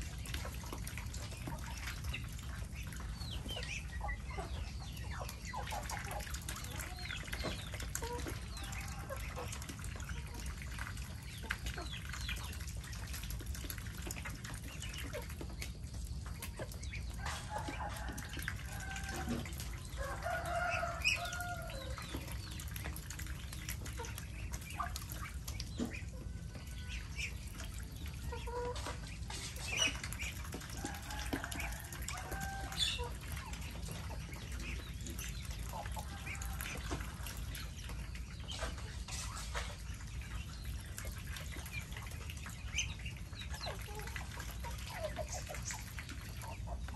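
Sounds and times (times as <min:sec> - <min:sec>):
hens clucking: 0:00.0 - 0:46.9.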